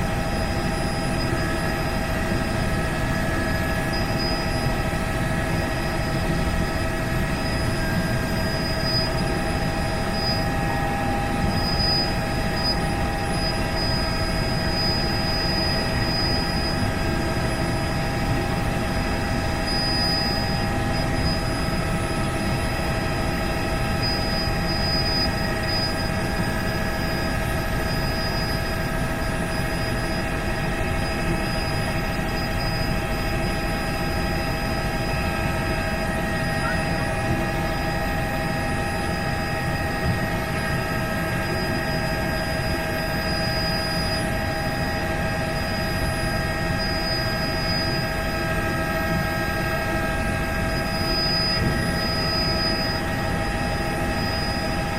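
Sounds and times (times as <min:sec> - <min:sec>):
helicopter rotor and engine: 0:00.0 - 0:54.9
high-pitched turbine whine: 0:00.0 - 0:54.9.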